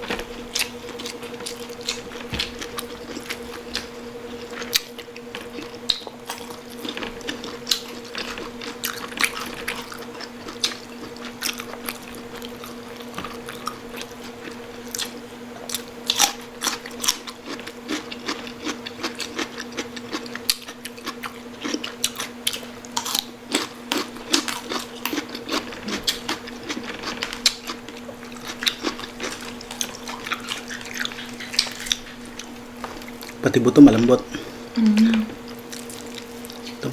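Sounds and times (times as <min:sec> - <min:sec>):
people chewing crispy food: 0:00.0 - 0:36.9
steady low hum: 0:00.0 - 0:36.9.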